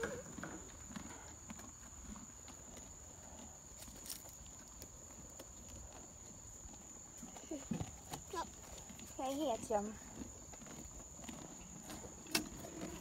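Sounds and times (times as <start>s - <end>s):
horse hoof steps and shuffling: 0.0s - 13.0s.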